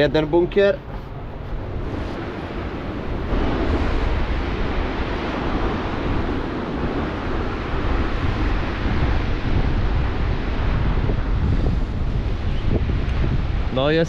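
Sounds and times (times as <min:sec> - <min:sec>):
surf on the shore: 0:00.0 - 0:14.0
wind buffeting microphone: 0:00.0 - 0:14.0.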